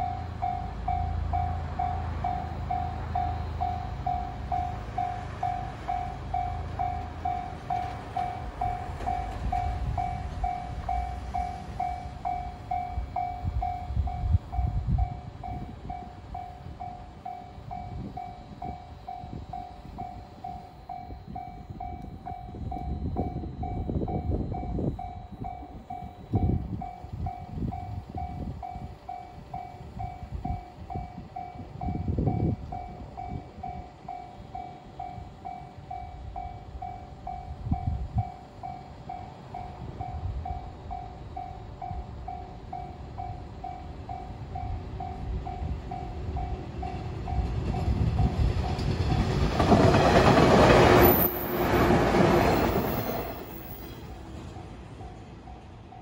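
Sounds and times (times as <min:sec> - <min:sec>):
railroad crossing bell alarm: 0:00.0 - 0:56.0.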